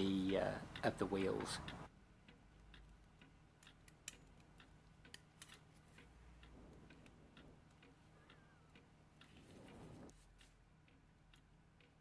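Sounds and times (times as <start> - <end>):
small metallic clicks: 0.2 - 12.0.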